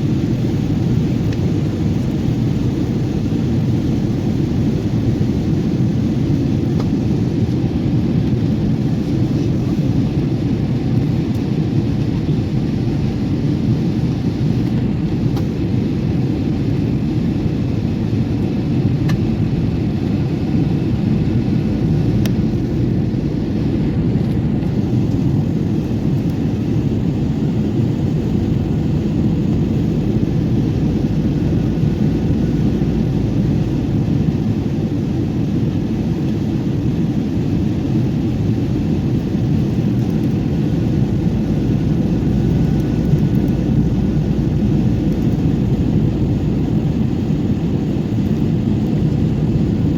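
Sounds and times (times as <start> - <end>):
airliner cabin engine roar: 0.0 - 49.9.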